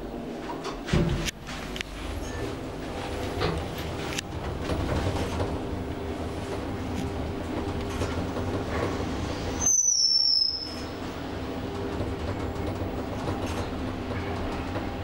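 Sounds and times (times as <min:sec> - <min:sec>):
lift ride noise with low hum: 0:00.0 - 0:15.0.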